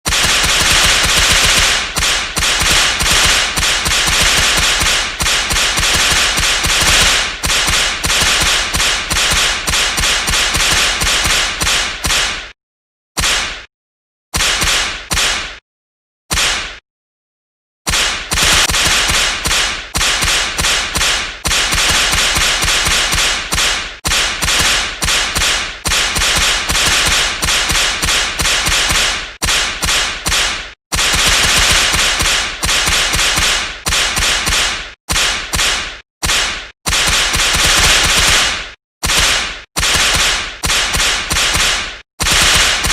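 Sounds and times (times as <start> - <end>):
whip cracks: 0.0 - 12.6, 13.2 - 13.7, 14.4 - 15.6, 16.3 - 16.8, 17.9 - 42.9.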